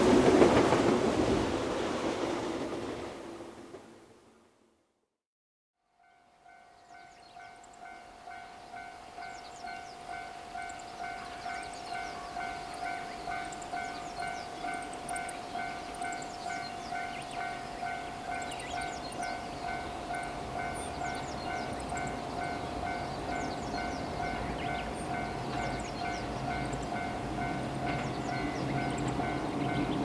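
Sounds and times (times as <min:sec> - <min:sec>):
electric train rumbling: 0:00.0 - 0:04.6, 0:06.0 - 0:30.0.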